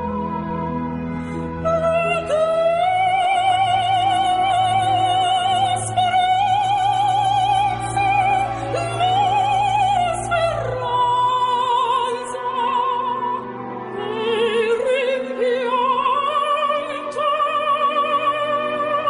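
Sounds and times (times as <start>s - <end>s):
operatic singing: 0.0s - 19.0s.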